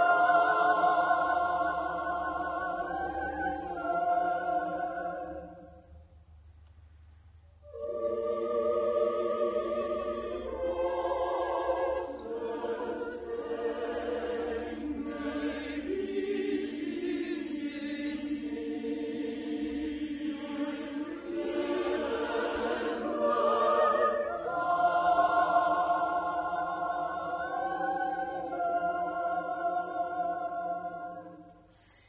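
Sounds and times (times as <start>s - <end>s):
operatic chorus singing: 0.0s - 5.9s, 7.6s - 31.7s.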